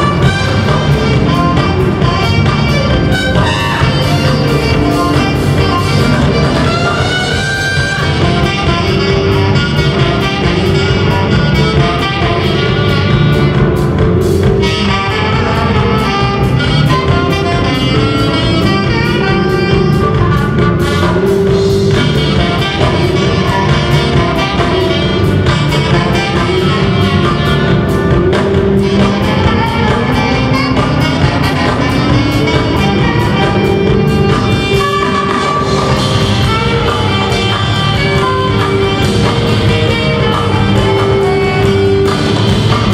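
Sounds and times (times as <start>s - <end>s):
bass: 0.0s - 42.9s
drum kit: 0.0s - 42.9s
electric guitar: 0.0s - 42.9s
saxophones playing melody: 0.0s - 42.9s.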